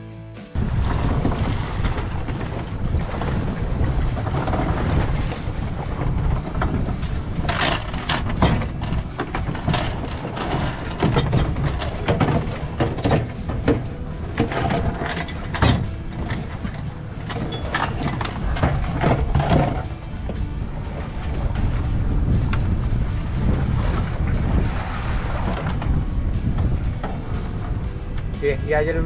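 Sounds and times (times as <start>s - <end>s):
boat engine rumble: 0.0s - 29.0s
boat knocks and thumps: 0.6s - 29.0s.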